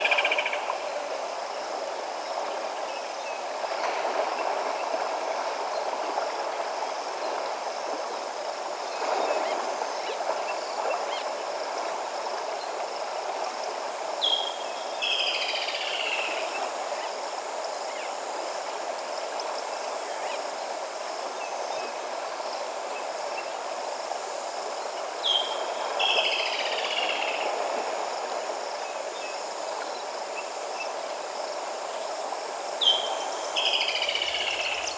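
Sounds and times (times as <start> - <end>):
faint insect hiss: 0.0 - 34.9
river water rushing: 0.0 - 34.9.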